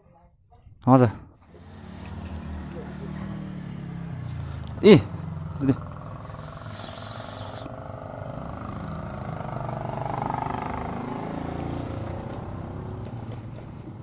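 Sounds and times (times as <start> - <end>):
vehicle engine running: 1.4 - 14.0.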